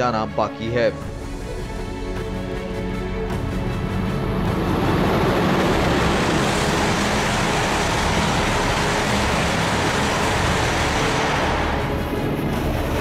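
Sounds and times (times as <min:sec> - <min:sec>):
train passing at high speed: 0:01.0 - 0:13.0.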